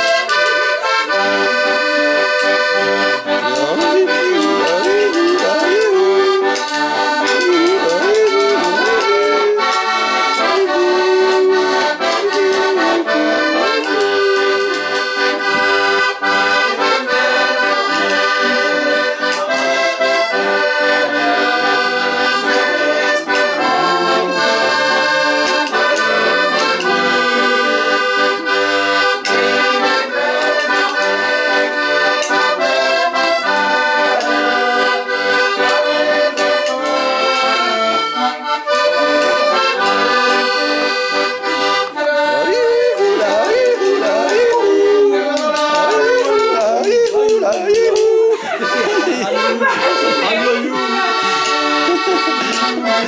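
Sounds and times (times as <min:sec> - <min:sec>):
accordion playing a tune: 0:00.0 - 0:53.0.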